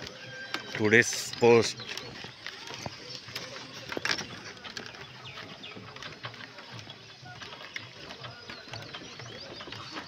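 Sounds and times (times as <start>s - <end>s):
bridge deck clicks and rattles: 0.0s - 10.0s
footsteps on wooden planks: 0.0s - 10.0s.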